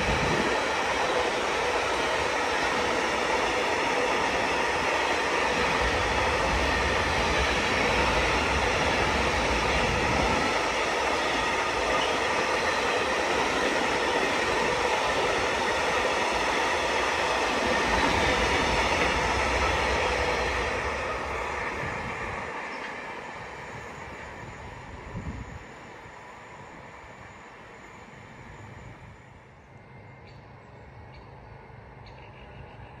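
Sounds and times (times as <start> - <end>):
train running on rails: 0.0 - 33.0.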